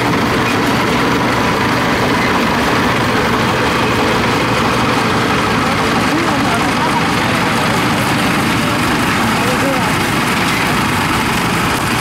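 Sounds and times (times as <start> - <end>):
harvester engine running: 0.0 - 12.0.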